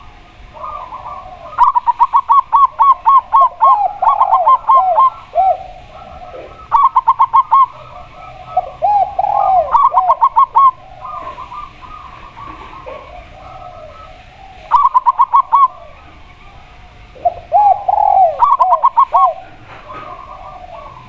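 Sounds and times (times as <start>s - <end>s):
lower longer dove coos: 0.0s - 21.0s
rapid high dove coos: 0.0s - 21.0s.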